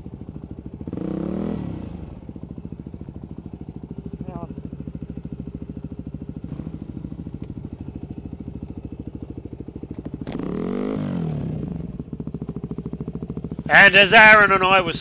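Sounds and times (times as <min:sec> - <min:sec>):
dirt bike engine idling and revving: 0:00.0 - 0:15.0.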